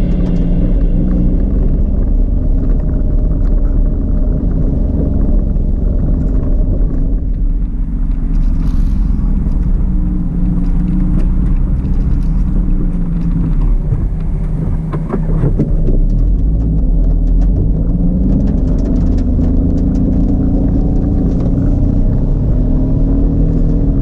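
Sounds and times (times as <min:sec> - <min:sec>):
rattles and knocks from bumps: 0:00.0 - 0:23.9
road rumble: 0:00.0 - 0:24.0
truck engine drone: 0:00.0 - 0:24.0.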